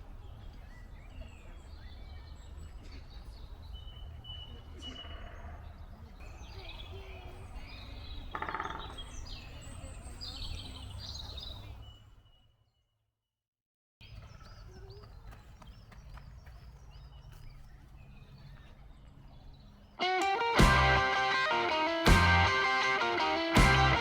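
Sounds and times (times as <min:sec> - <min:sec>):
songbirds singing and chirping: 0:00.0 - 0:12.5, 0:14.0 - 0:24.0.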